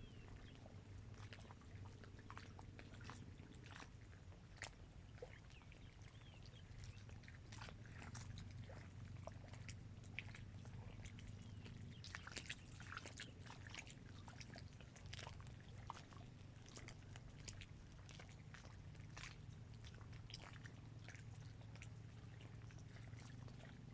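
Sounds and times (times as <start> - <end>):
low steady hum: 0.0 - 23.9
small waves lapping: 0.0 - 23.9.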